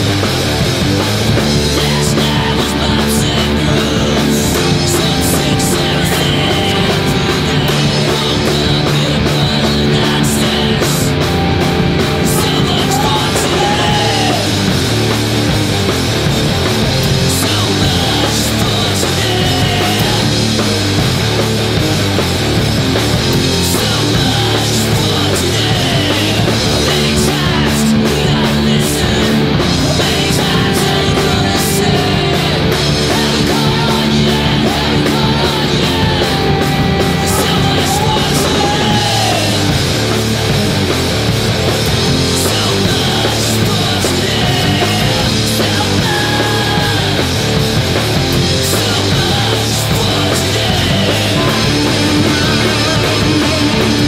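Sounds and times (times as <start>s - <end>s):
loud rock song: 0.0s - 54.0s.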